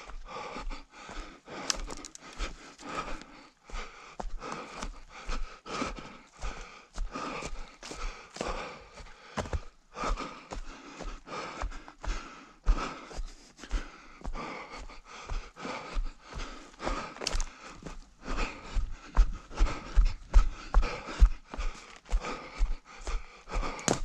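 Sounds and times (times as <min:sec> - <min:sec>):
runner panting: 0:00.0 - 0:24.0.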